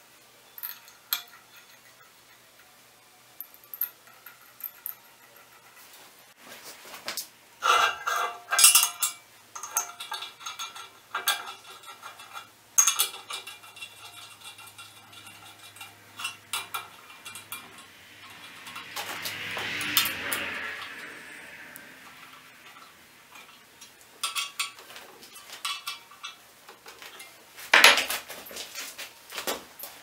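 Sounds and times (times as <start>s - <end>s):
screws clinking on steel plate: 0.5s - 2.8s, 3.4s - 5.9s, 7.6s - 21.2s, 22.0s - 28.0s.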